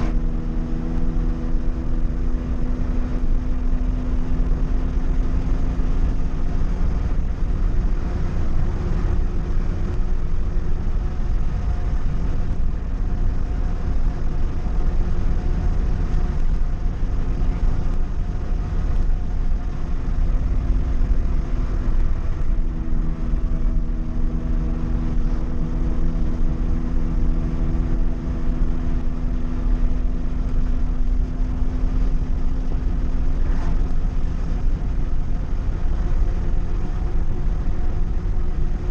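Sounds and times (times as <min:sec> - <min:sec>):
car engine and exhaust rumbling: 0:00.0 - 0:38.9
road noise: 0:00.0 - 0:38.9.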